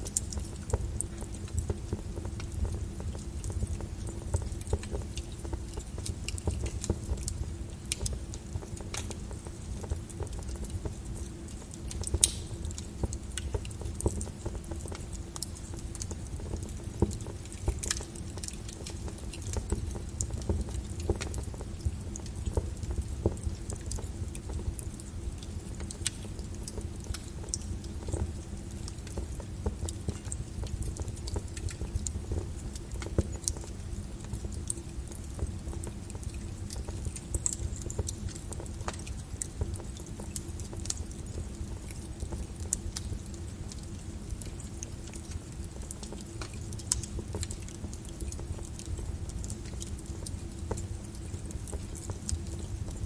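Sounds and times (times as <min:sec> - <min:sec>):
fire low rumble: 0:00.0 - 0:53.0
rain pattering on a window: 0:00.0 - 0:53.0
wood fire crackling and popping: 0:00.0 - 0:53.0.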